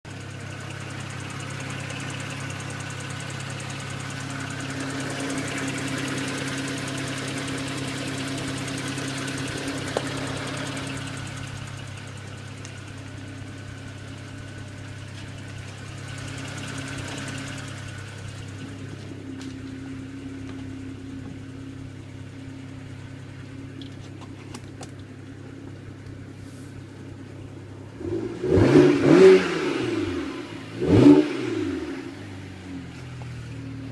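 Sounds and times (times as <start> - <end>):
car engine idling with ticking: 0.0 - 33.9
car engine revving: 0.3 - 33.9.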